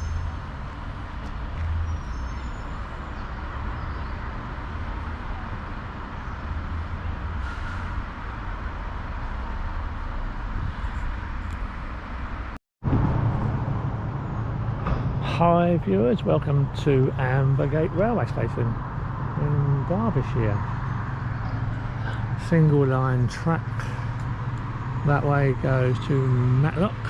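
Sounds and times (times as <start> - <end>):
outdoor rumble and hiss: 5.0 - 27.0.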